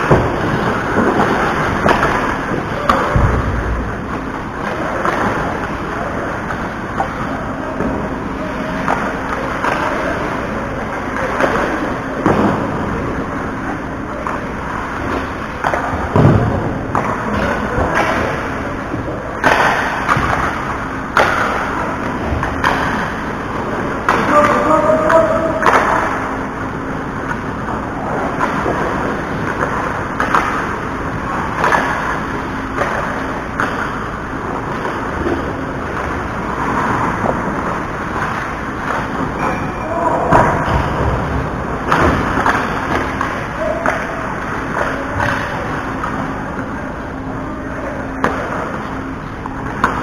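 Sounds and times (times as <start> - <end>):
sticks and puck clacking: 0.0 - 50.0.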